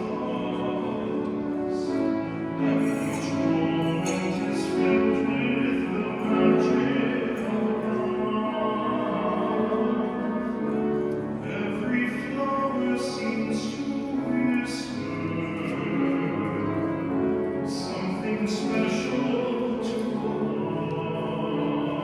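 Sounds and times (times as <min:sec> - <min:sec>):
slow vocal music: 0:00.0 - 0:22.0.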